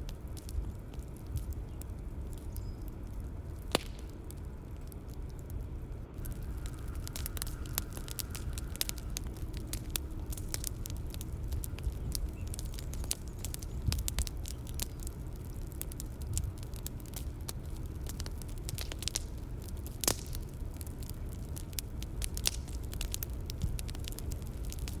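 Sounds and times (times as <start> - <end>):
bonfire pops and snaps: 0.0 - 25.0
low steady rumble: 0.0 - 25.0.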